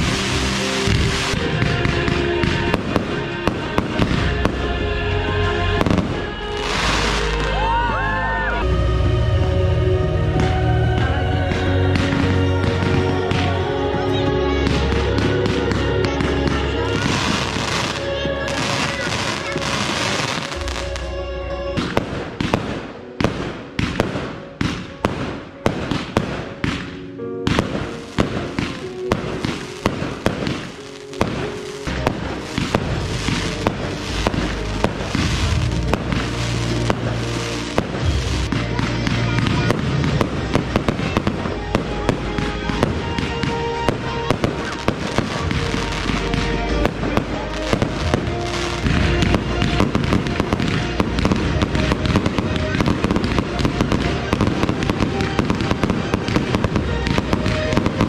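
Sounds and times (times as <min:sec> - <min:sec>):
fireworks bangs: 0:00.0 - 0:07.9, 0:10.3 - 0:58.0
music playing: 0:00.0 - 0:58.0.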